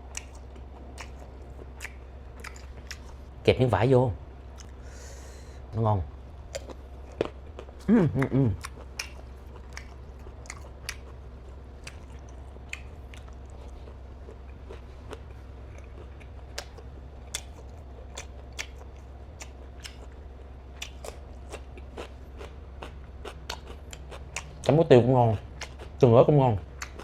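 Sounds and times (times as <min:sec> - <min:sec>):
chewing and mouth smacks: 0:00.1 - 0:03.3, 0:04.5 - 0:04.8, 0:06.5 - 0:24.8, 0:25.4 - 0:26.0, 0:26.6 - 0:27.0.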